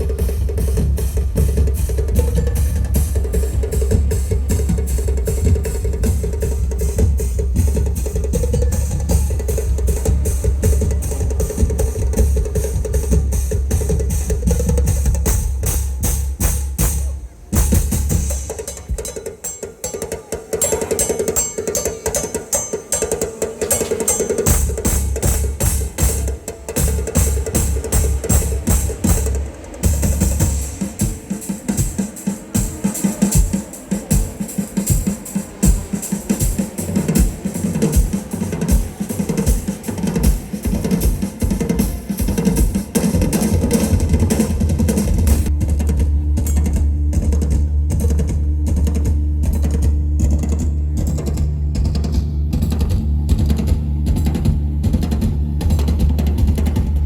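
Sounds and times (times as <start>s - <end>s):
music with drum beat and heavy bass: 0.0s - 57.0s.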